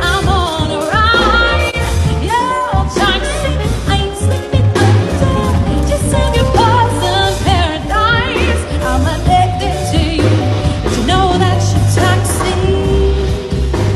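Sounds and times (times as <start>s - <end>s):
backing music: 0.0s - 13.9s
pulsing bass line: 0.0s - 13.9s.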